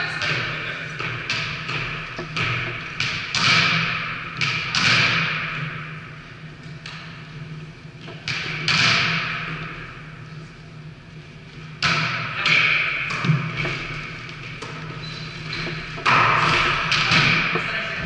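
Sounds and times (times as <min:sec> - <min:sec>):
volleyballs hit in echoing hall: 0:00.0 - 0:18.0.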